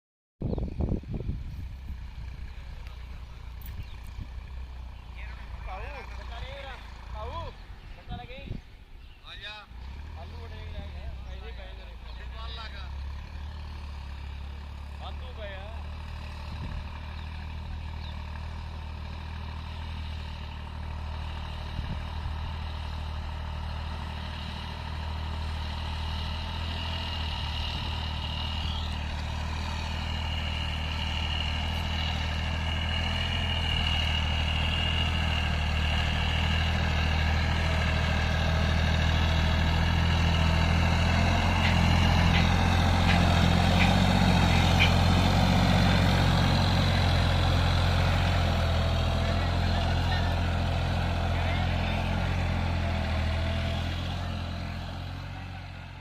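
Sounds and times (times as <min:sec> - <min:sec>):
tractor engine running: 0:00.4 - 0:56.0.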